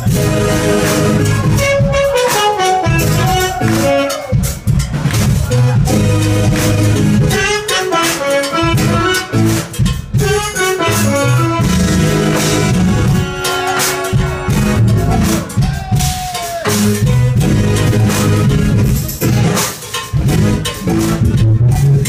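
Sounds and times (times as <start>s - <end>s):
jazz fusion band playing: 0.0s - 22.0s.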